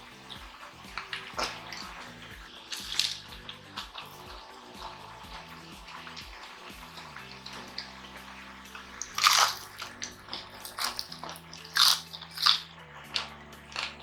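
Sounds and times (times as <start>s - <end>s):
crunching and chewing crispy food: 0.0s - 14.0s.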